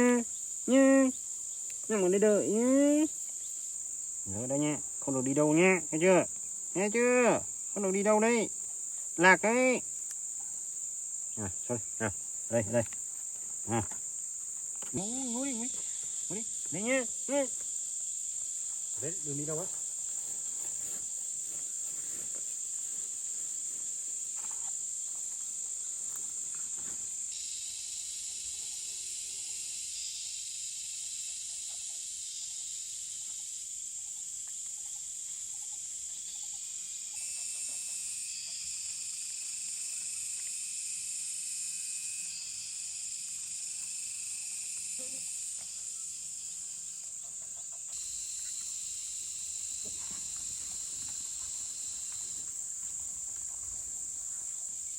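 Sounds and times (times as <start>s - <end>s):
high-pitched insect calls: 0.0s - 54.9s
insect chorus: 0.0s - 54.9s.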